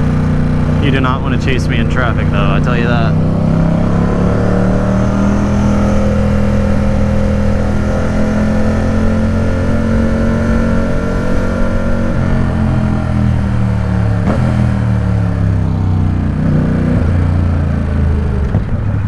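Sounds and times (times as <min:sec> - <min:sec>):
motorcycle engine with loud exhaust: 0:00.0 - 0:19.0.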